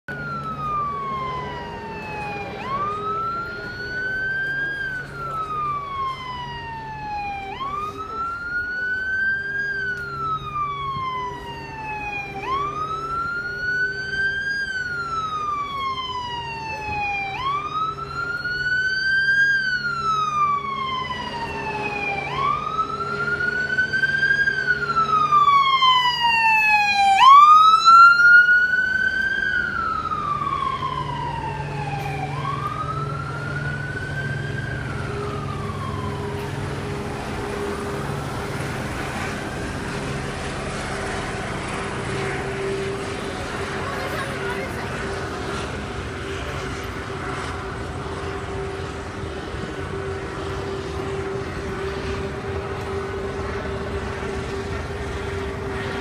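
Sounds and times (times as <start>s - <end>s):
faster higher siren sweep: 0.1s - 56.0s
siren wailing: 0.1s - 56.0s.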